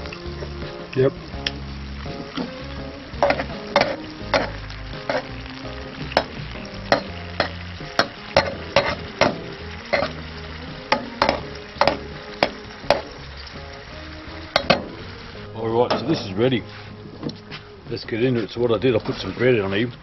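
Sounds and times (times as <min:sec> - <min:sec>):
fish sizzling in oil: 0:00.0 - 0:20.0
oil popping and crackling: 0:00.0 - 0:20.0.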